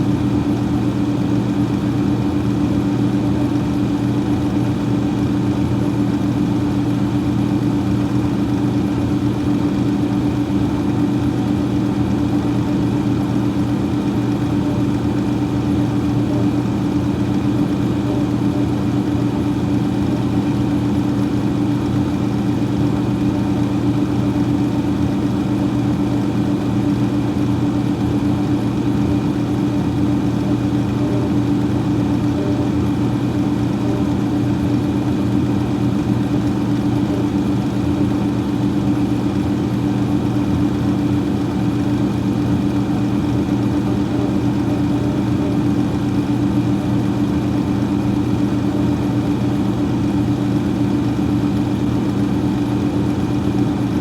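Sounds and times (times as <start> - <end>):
freezer fan humming: 0.0 - 54.0.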